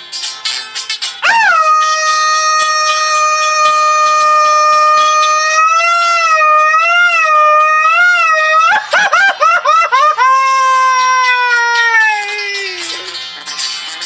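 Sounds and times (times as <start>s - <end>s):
man yelling with yips: 1.2s - 12.9s.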